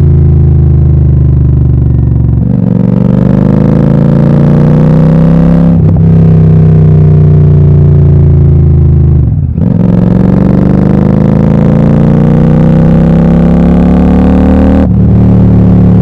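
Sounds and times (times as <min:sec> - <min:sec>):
loud motorcycle engine running: 0:00.0 - 0:16.0.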